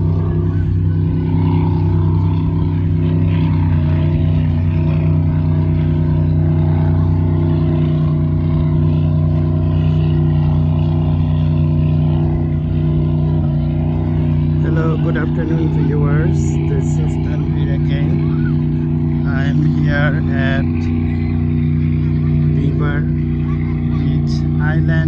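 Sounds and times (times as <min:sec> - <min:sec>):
engine droning steadily: 0:00.0 - 0:25.0.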